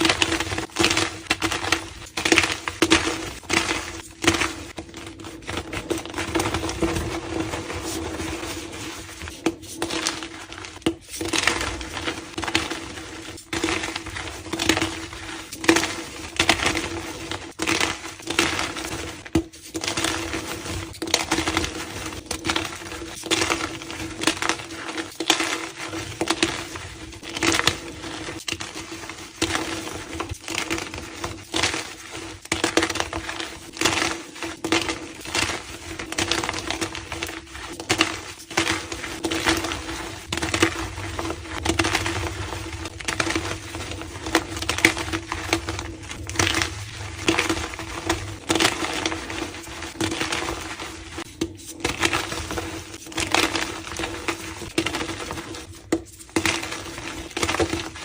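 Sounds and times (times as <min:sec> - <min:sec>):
chalk blocks crunching: 0:00.0 - 0:58.0.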